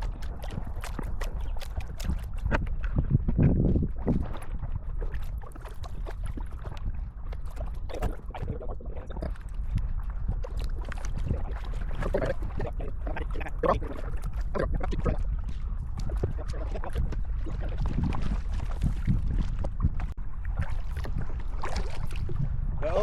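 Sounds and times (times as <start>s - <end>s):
low wind rumble on microphone: 0.0s - 23.0s
paddles splashing in water: 0.0s - 23.0s.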